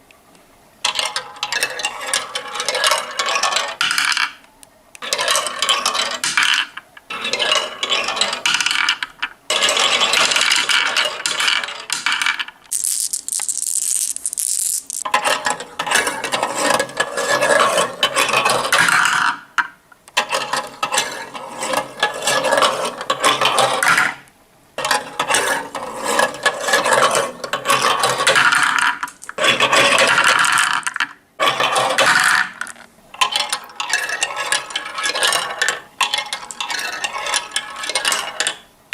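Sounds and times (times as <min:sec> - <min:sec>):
marbles rolling down marble run: 0:00.9 - 0:04.4, 0:05.0 - 0:19.4, 0:24.8 - 0:38.6.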